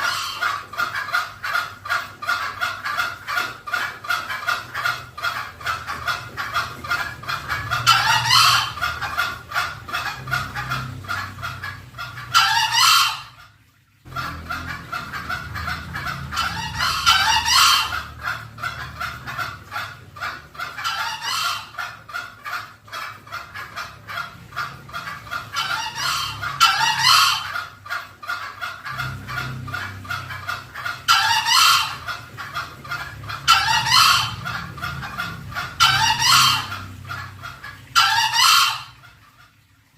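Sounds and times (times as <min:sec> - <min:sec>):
junglefowl crowing: 0:00.0 - 0:13.4, 0:14.1 - 0:39.0
rapid clucking: 0:00.0 - 0:13.4, 0:14.1 - 0:39.6.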